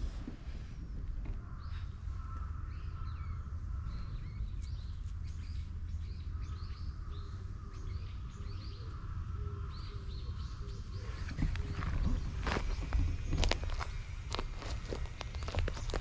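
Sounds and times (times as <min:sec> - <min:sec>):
low outdoor rumble: 0:00.0 - 0:16.0
small birds chirping: 0:00.5 - 0:16.0.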